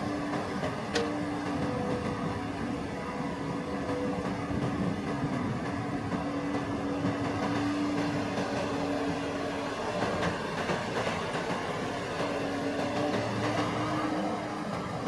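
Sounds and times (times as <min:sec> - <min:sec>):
harvester engine hum: 0:00.0 - 0:15.0.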